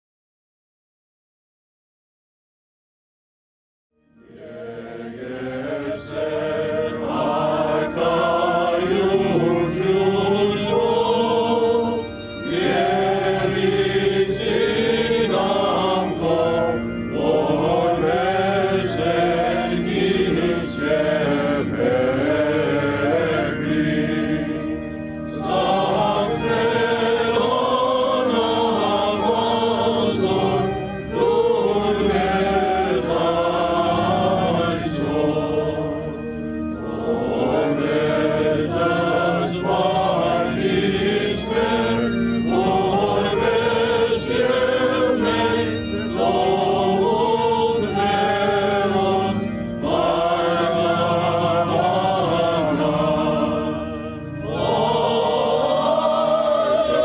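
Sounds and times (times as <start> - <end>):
voices singing liturgical chant: 4.2 - 57.0.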